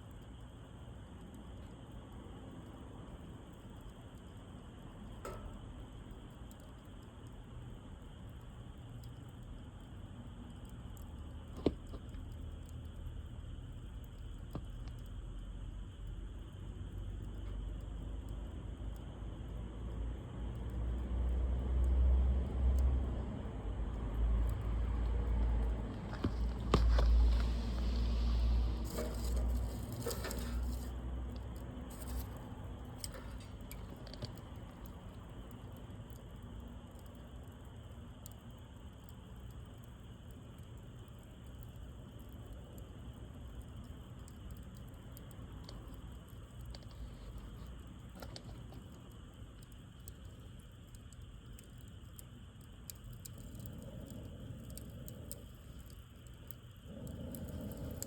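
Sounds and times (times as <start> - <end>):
wood fire crackling: 0.0 - 58.0
fire pops and snaps: 1.2 - 19.1, 22.7 - 58.0.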